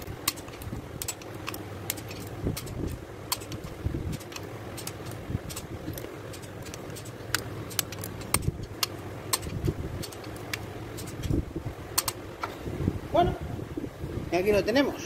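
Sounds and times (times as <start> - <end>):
torque wrench clicks: 0.0 - 12.2.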